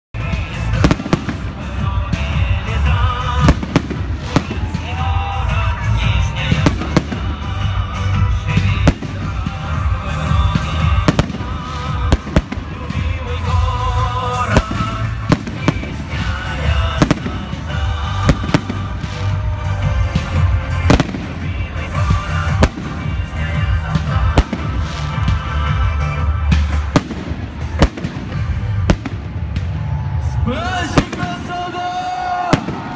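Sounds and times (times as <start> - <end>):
fireworks bangs: 0.2 - 32.9.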